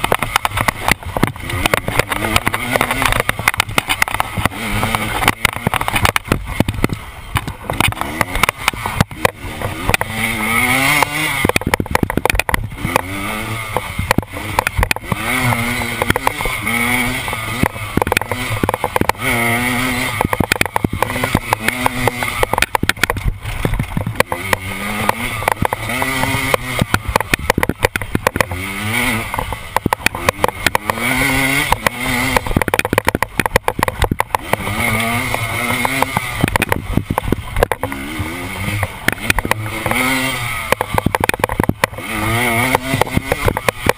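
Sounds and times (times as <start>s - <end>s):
motorcycle engine revving: 0.0s - 43.9s
sharp knocks of bike on bumps: 0.0s - 43.9s.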